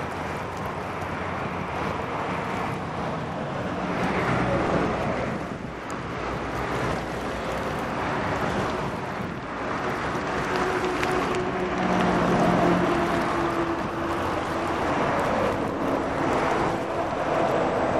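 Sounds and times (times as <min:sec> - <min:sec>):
outdoor rumble: 0:00.0 - 0:17.9
wind buffeting microphone: 0:00.0 - 0:17.9.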